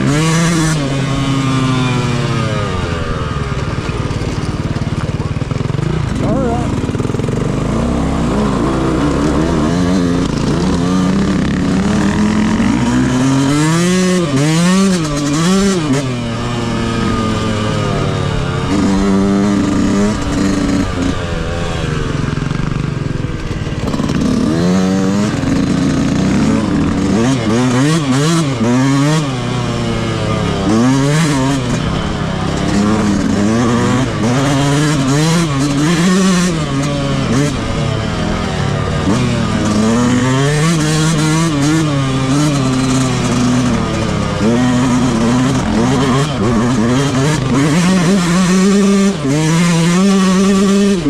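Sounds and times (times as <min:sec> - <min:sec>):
two-stroke motorbike engine revving: 0:00.0 - 0:51.0.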